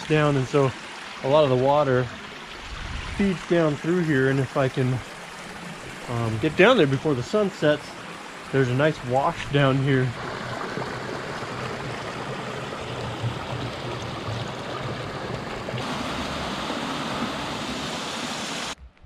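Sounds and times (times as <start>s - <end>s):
runoff water rushing: 0.0s - 18.8s.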